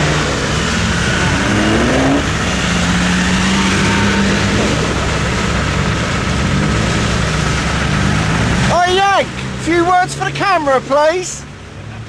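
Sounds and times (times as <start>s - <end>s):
engine revving: 0.0s - 11.0s
car engine idling: 0.0s - 12.0s.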